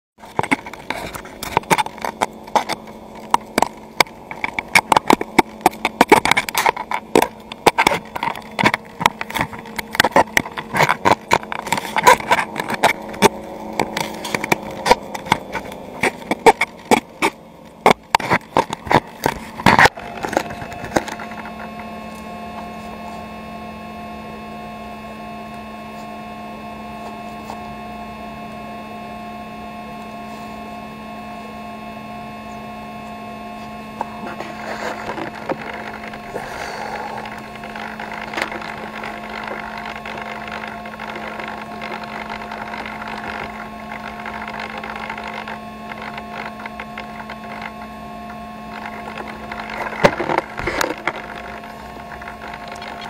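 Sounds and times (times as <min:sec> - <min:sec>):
electrical hum: 0:00.2 - 0:53.0
held tones: 0:00.2 - 0:53.0.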